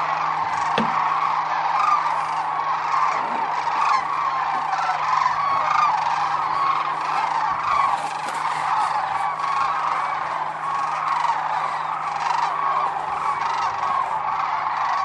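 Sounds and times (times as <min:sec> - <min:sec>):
flock of cranes calling: 0:00.0 - 0:15.0.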